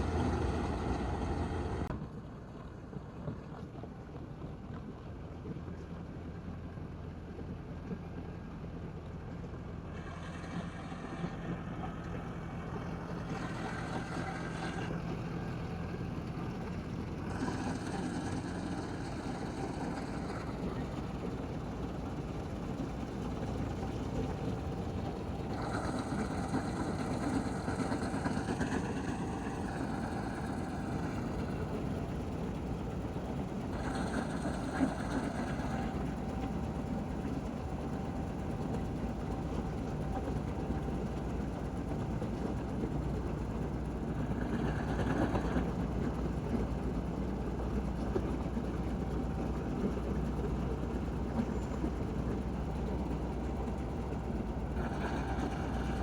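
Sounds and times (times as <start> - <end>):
diesel engine running: 0.0 - 1.9, 8.6 - 56.0
high mechanical whine: 10.2 - 56.0.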